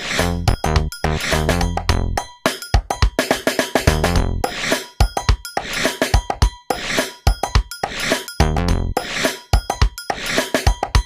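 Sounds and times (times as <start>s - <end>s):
music with quick drum beat: 0.0s - 11.0s.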